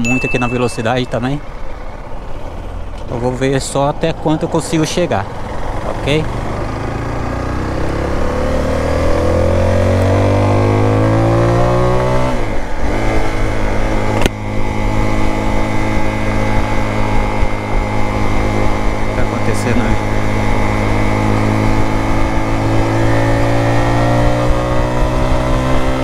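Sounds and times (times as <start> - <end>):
motorcycle engine accelerating: 1.0 - 26.0.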